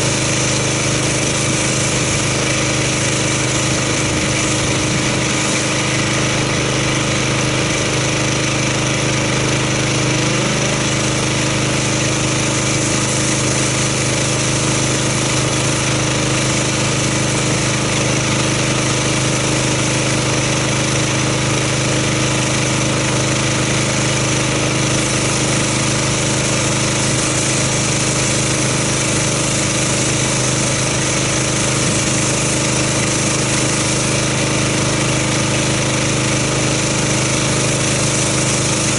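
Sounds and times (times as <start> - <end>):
water spray hissing: 0.0 - 20.9, 23.8 - 38.9
pressure washer engine running: 0.0 - 38.9.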